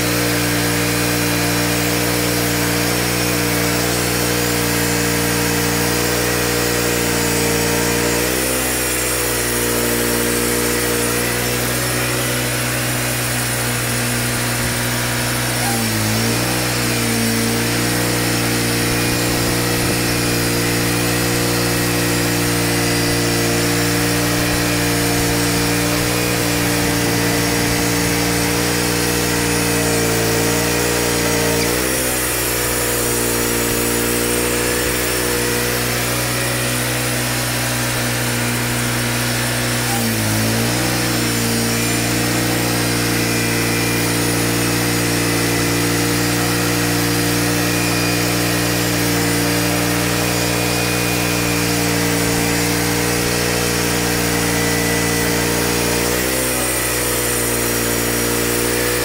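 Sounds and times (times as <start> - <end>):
band saw blade cutting log: 0.0 - 59.0
sawmill engine running: 0.0 - 59.0.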